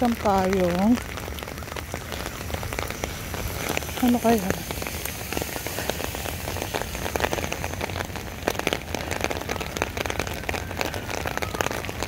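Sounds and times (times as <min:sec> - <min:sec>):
rain hiss: 0:00.0 - 0:12.0
raindrops ticking: 0:00.0 - 0:12.0.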